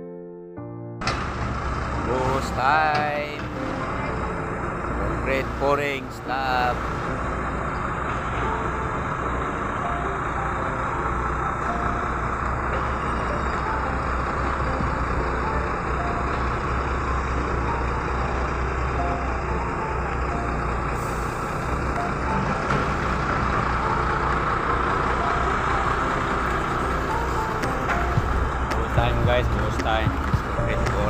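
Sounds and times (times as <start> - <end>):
diesel engine rumble: 1.0 - 31.0.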